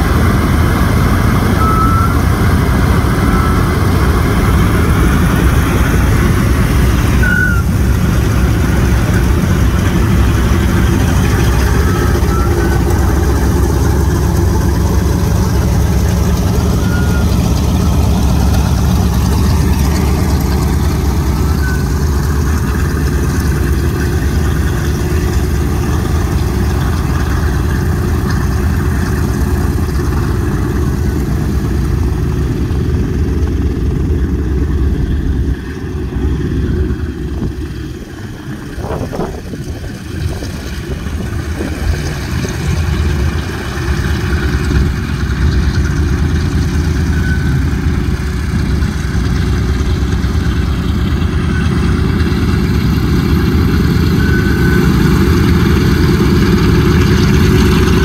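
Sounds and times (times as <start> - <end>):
propeller aircraft engines droning: 0.0 - 58.0.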